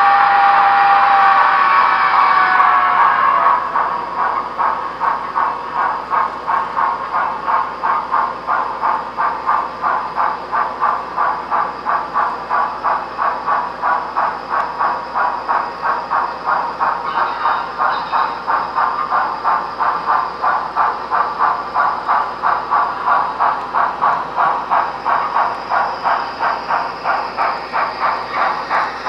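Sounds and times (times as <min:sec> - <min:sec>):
model steam locomotive chuffing: 0:00.0 - 0:29.0.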